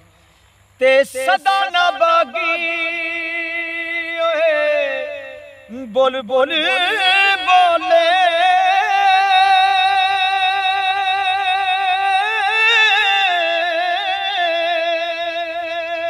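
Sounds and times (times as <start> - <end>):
man singing with vibrato: 0.8 - 16.0.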